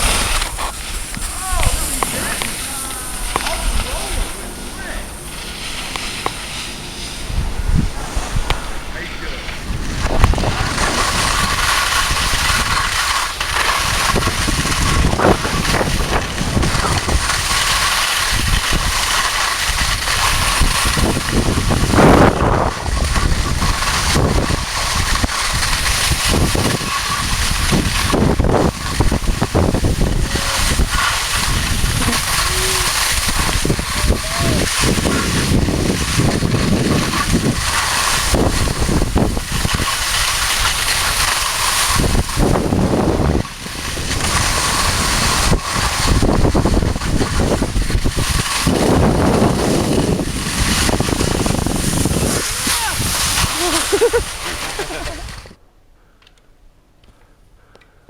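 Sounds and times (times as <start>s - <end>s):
skis scraping over snow: 0.0s - 55.6s
wind on microphone: 0.0s - 55.6s.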